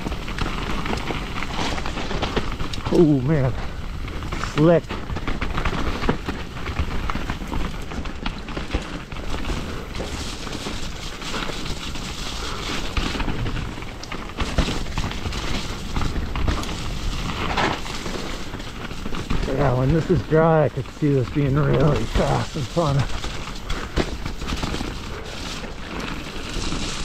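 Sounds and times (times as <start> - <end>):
bike rattling over bumps: 0.0 - 27.0
bike tyres crunching over rock: 0.0 - 27.0.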